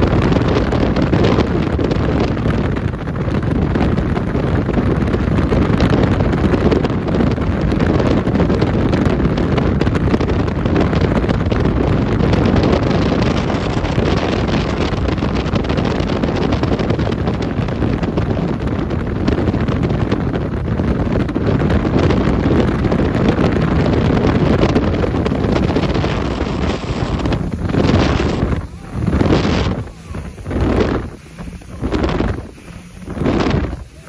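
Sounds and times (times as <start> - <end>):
boat motor running: 0.0 - 34.0
wind buffeting microphone: 0.0 - 34.0.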